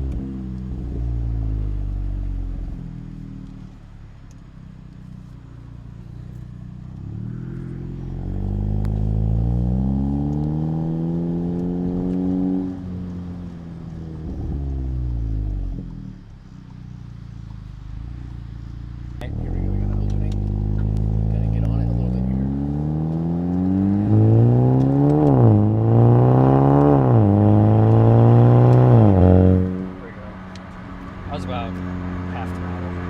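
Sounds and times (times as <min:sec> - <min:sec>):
car engine exhaust note: 0:00.0 - 0:33.0.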